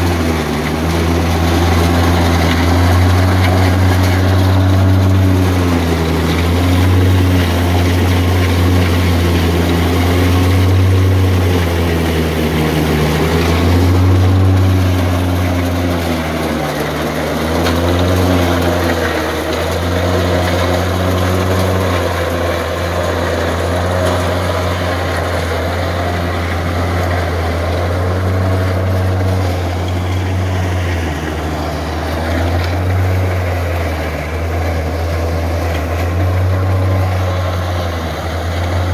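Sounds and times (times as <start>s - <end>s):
chopper chopping corn stalks: 0.0s - 38.9s
tractor engine running: 0.0s - 38.9s.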